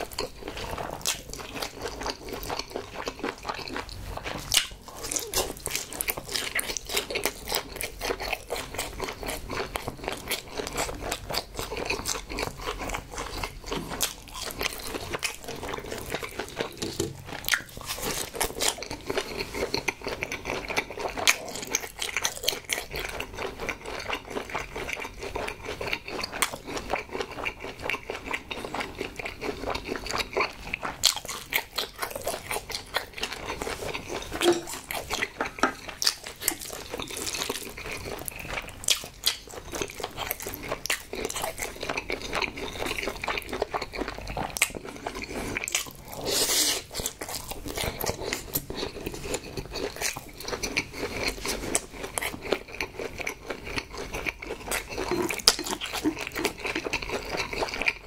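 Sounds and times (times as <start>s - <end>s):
wet sticky chewing: 0.0s - 58.0s.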